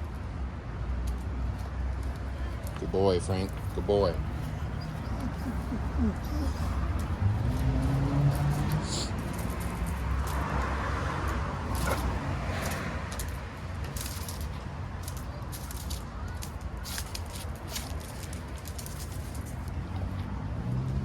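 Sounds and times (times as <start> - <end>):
light clicks and scuffs: 0.9 - 21.0.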